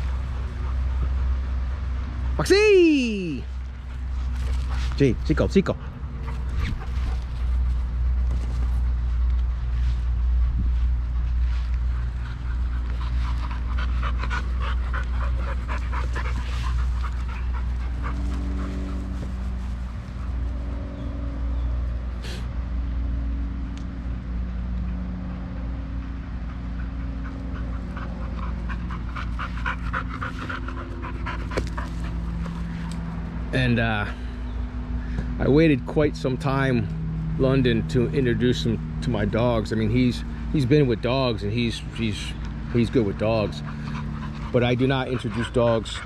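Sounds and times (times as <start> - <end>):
dogs panting: 0.0 - 2.5, 3.2 - 22.2, 24.3 - 46.0.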